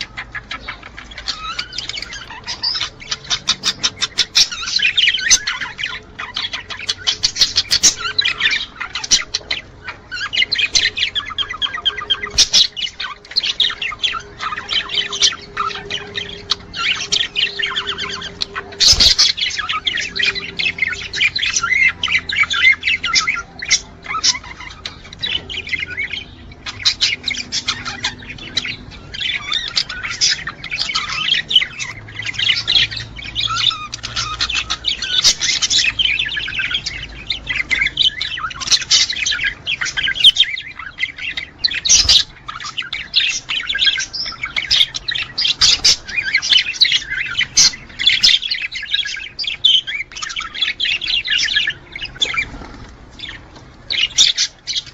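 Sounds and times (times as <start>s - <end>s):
budgerigars chattering and warbling: 0.0s - 54.9s.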